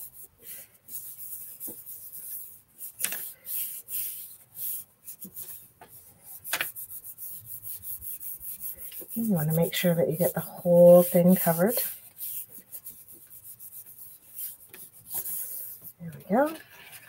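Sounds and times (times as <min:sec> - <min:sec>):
hands rubbing paper: 0:00.0 - 0:17.0.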